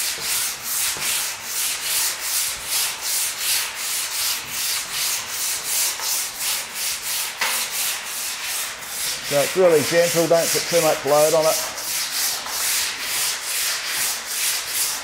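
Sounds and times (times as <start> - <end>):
file rasping across steel panel: 0.0 - 15.0.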